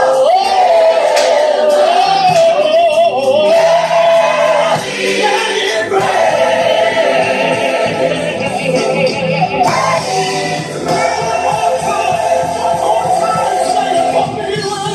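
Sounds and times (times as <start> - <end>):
gospel choir singing: 0.0 - 14.9.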